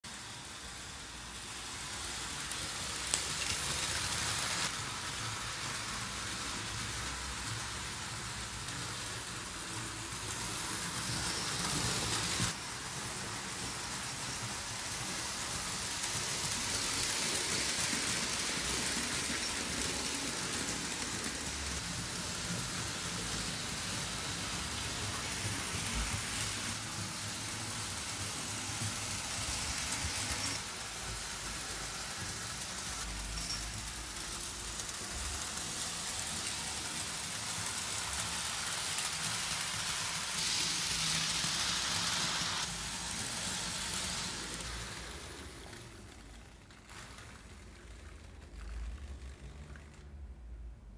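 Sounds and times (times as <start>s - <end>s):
model train wheels rattling: 0.1s - 50.3s.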